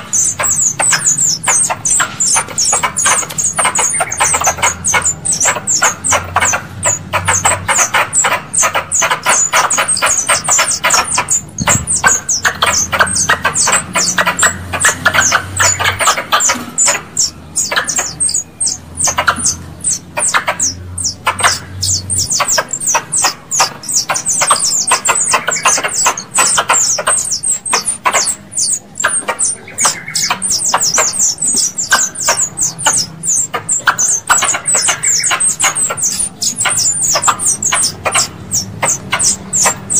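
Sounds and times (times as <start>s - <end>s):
squirrel calls high chirps: 0.0s - 39.9s.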